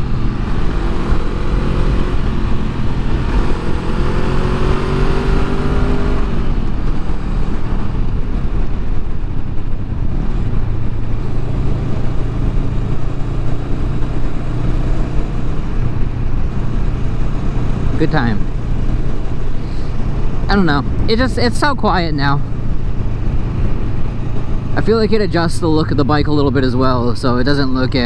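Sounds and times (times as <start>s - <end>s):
motorcycle engine accelerating: 0.0s - 28.0s
rush of noise: 0.0s - 28.0s.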